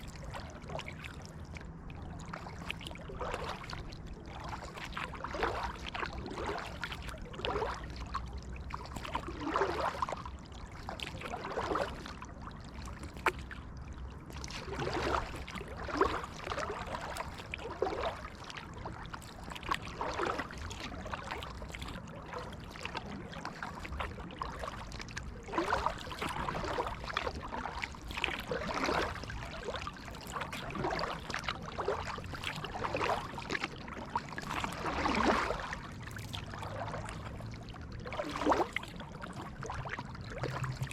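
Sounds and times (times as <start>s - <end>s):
paddle splashing through water: 0.0s - 40.9s.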